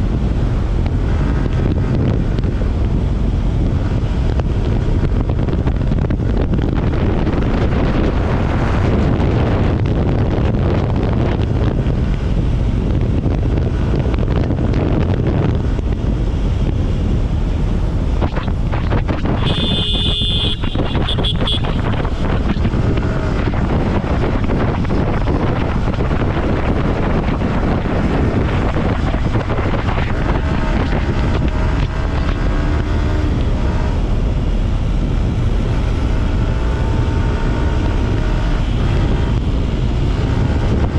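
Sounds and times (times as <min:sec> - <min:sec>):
motorcycle engine: 0:00.0 - 0:40.9
road noise: 0:00.0 - 0:40.9
wind rushing over microphone: 0:00.0 - 0:40.9.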